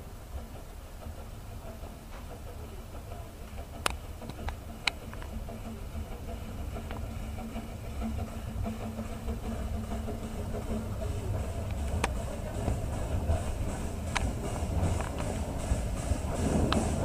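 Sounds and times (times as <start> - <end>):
steam locomotive rumble: 0.0 - 17.0.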